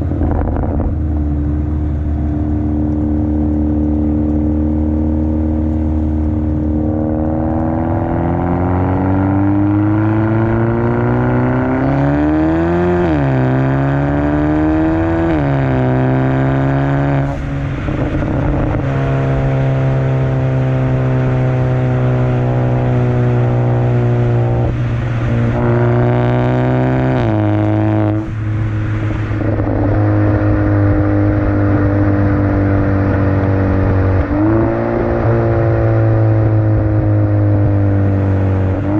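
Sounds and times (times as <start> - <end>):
car exhaust accelerating: 0.0 - 38.9.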